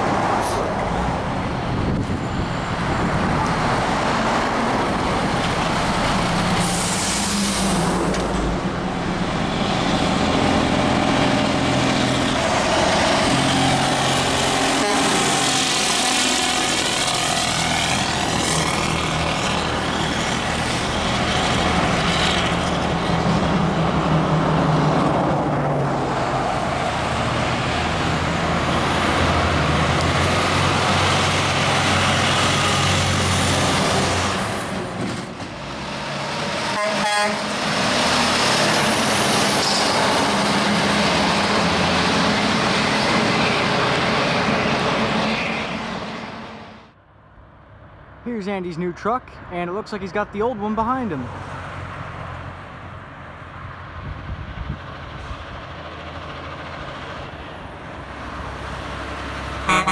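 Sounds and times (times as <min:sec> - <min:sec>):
diesel trucks passing: 0:00.0 - 0:59.9.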